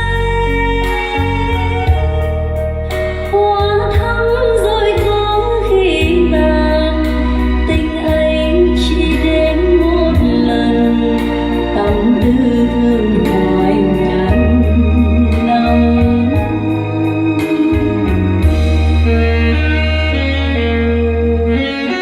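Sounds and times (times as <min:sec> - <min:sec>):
keyboard chords: 0:00.0 - 0:22.0
person singing ballad: 0:00.0 - 0:22.0
steady bass: 0:00.0 - 0:22.0.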